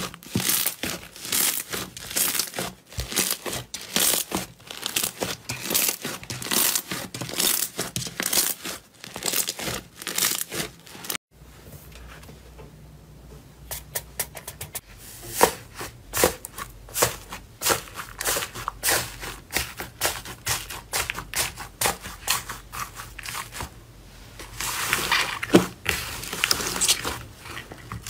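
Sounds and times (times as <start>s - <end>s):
slime being kneaded crinkling: 0.0s - 11.2s, 15.6s - 23.7s, 24.3s - 28.0s.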